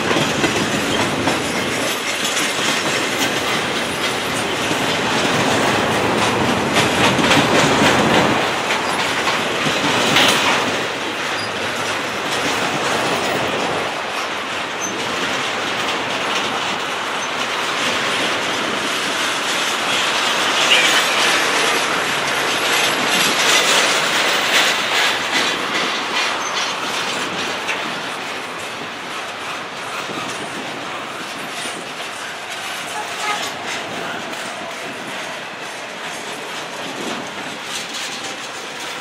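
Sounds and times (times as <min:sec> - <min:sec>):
train wheels clicking over rail joints: 0:00.0 - 0:39.0.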